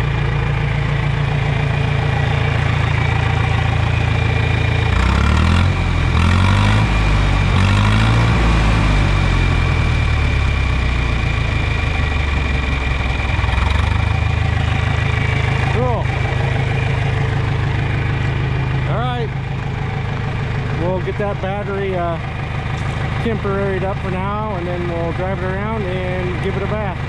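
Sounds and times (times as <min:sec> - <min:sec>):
tractor engine idling: 0:00.0 - 0:27.0
tractor engine revving: 0:00.0 - 0:27.0.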